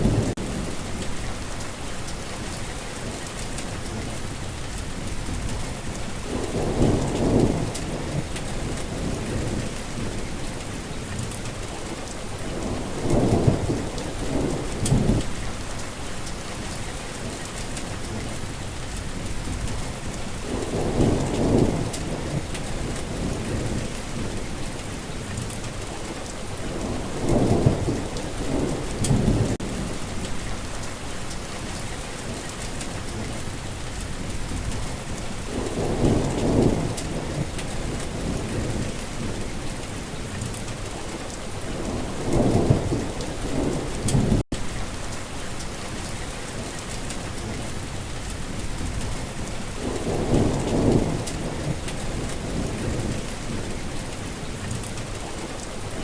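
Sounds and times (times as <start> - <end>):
low thunder rumbles: 0.0 - 16.8, 17.8 - 25.9, 26.5 - 56.0
heavy rain: 0.0 - 56.0.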